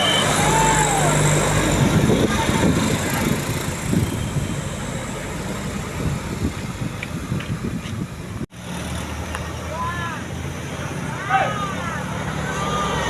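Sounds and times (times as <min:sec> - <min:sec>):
bus engine rumbling: 0:00.0 - 0:13.0.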